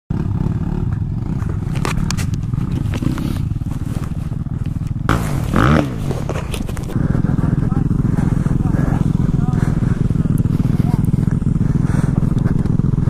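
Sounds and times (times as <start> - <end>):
dirt bike engine idling and revving: 0.1 - 13.0.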